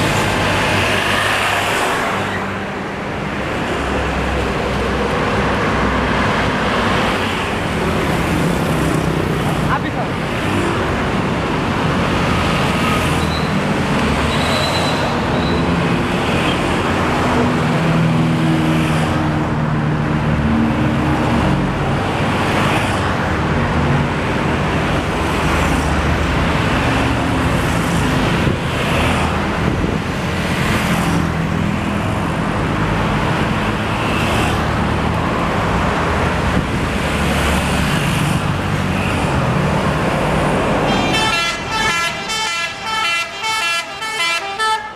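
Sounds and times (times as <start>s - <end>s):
bus engines running: 0.0s - 44.9s
vehicles passing: 0.0s - 44.9s.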